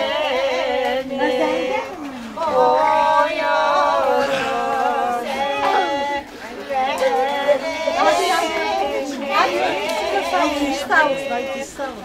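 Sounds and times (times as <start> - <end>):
melismatic singing: 0.0 - 12.0.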